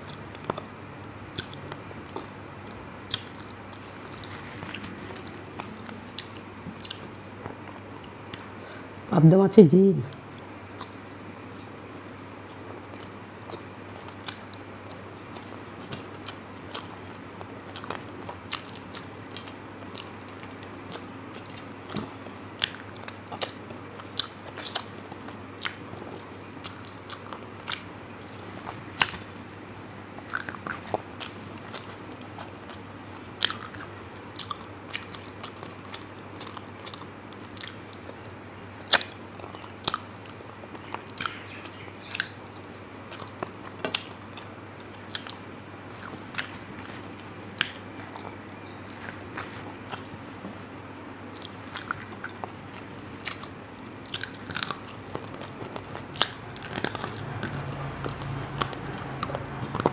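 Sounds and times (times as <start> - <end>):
person chewing: 0.0 - 8.9, 10.1 - 59.9
faint steady hum: 0.0 - 59.9.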